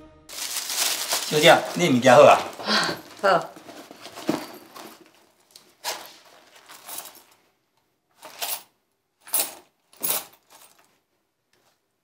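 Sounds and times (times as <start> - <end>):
rustling handling noises: 0.3 - 8.7, 9.3 - 11.9.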